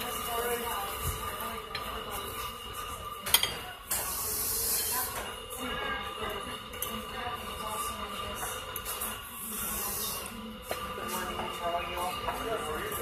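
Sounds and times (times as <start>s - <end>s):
diner room noise: 0.0s - 13.0s.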